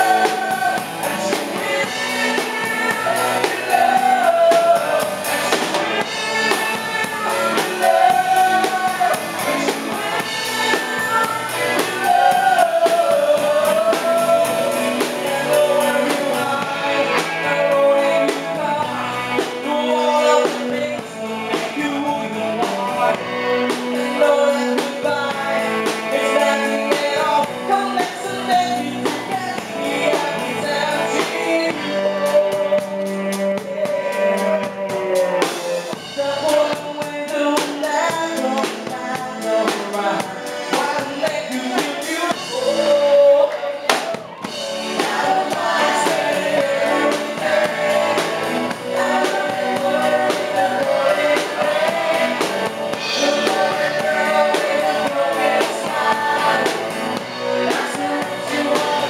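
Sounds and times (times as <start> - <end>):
woman singing: 0.0 - 44.1, 44.8 - 59.0
drums: 0.0 - 59.0
keyboard: 0.0 - 59.0
man singing: 0.0 - 59.0.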